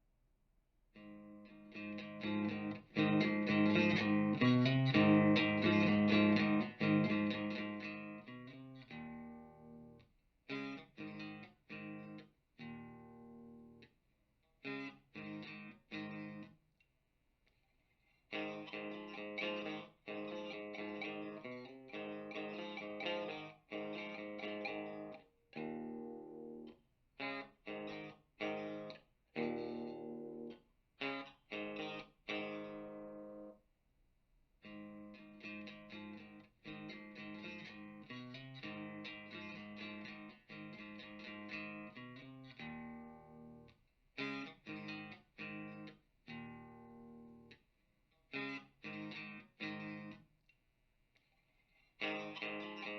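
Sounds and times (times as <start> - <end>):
electric guitar through amp: 1.0 - 13.8, 14.7 - 16.5, 18.4 - 33.6, 34.7 - 47.6, 48.4 - 50.2, 52.0 - 52.9.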